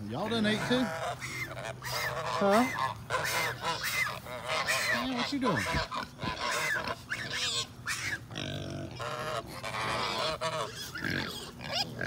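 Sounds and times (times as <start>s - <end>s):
geese honking: 0.1s - 12.0s.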